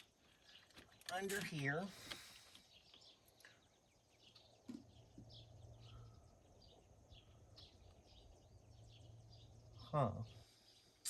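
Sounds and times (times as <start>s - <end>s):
small bird chirps: 0.0s - 11.0s.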